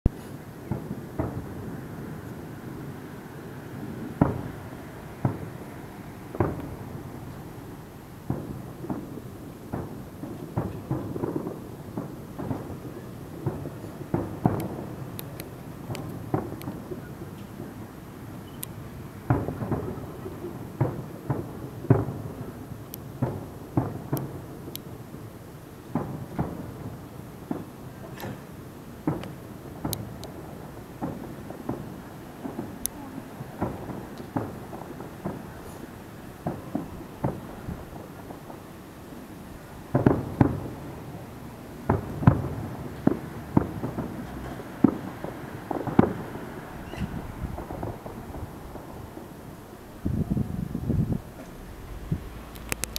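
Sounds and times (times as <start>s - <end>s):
firework shells booming: 0.1s - 25.0s, 25.8s - 52.9s
firework crackles: 0.1s - 52.9s.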